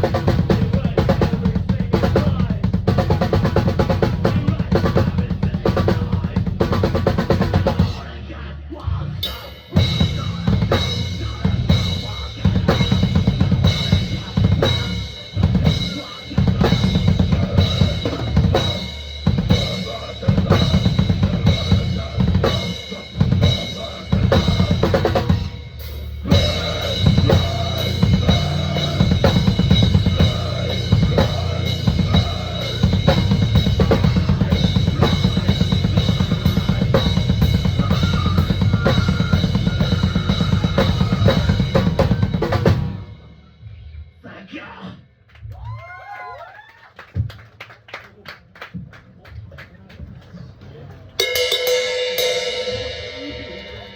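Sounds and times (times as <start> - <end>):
drum kit played fast: 0.0 - 8.1, 9.2 - 43.4, 51.2 - 53.9.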